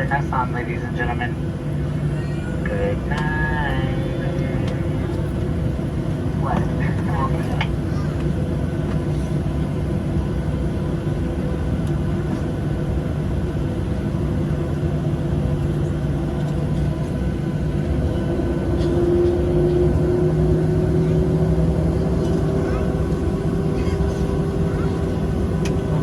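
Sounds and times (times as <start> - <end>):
jet engine drone in cabin: 0.0 - 26.0.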